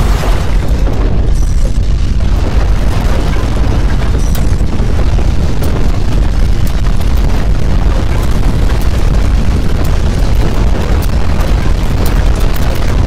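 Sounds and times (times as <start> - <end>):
earthquake low rumble: 0.0 - 13.0.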